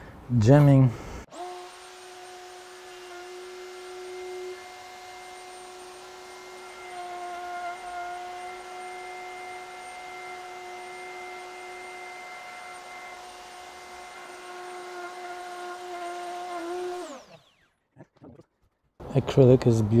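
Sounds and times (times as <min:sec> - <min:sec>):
router motor high whine: 0:01.3 - 0:17.8.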